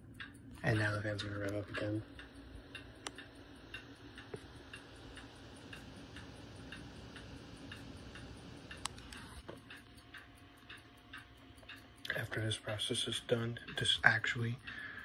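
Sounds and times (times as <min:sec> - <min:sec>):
desk clock ticking: 0:00.0 - 0:15.0
faint steady hiss: 0:00.0 - 0:15.0.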